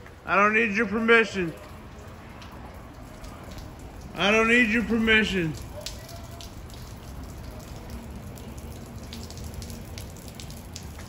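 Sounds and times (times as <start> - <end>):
drops ticking: 0.0 - 11.0
steady rain on pavement: 0.0 - 11.0.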